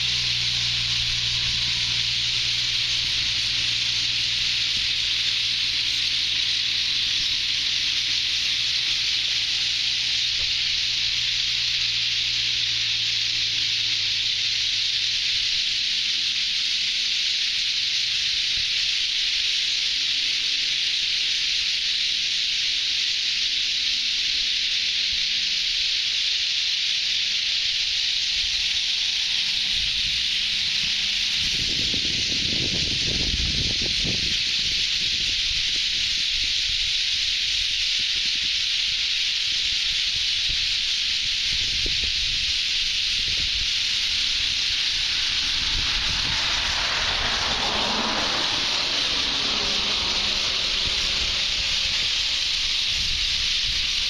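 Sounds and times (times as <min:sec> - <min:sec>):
flock of starlings chattering: 0:00.0 - 0:54.0.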